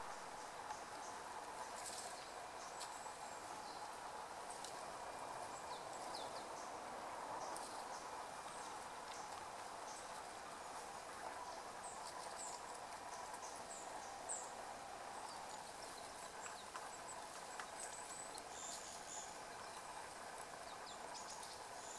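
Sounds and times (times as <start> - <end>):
outdoor background hum: 0.0 - 21.9
small birds calling: 0.0 - 21.9.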